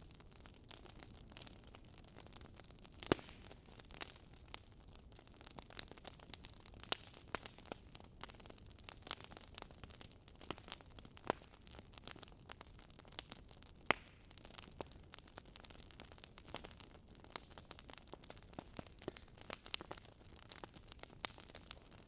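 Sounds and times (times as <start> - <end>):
fire crackling in a fireplace: 0.0 - 22.0
loud fire pops: 0.0 - 22.0.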